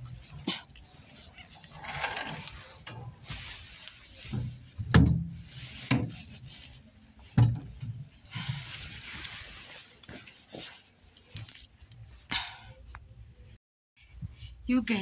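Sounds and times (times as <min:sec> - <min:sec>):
rubbing and shuffling: 0:00.0 - 0:12.2.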